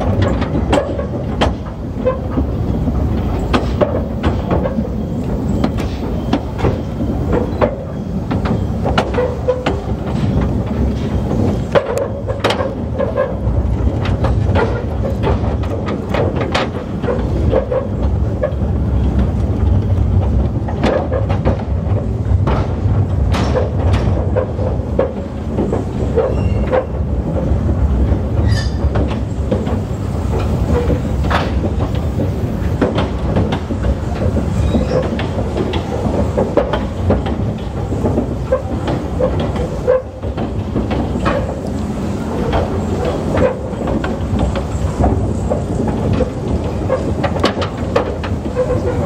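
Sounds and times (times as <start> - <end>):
train rumbling on track: 0.0 - 49.0
wheels clacking over rails: 0.0 - 49.0.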